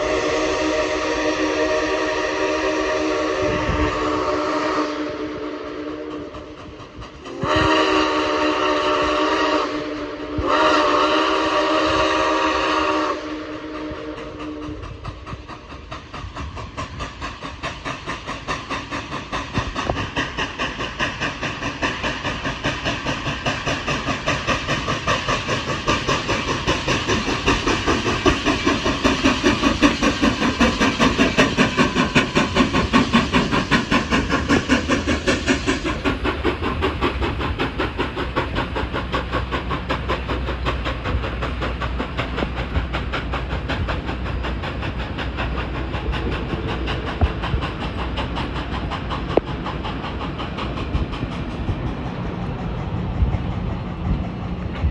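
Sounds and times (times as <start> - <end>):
hiss of steam: 0.0 - 54.9
steam locomotive chuffing: 0.0 - 54.9.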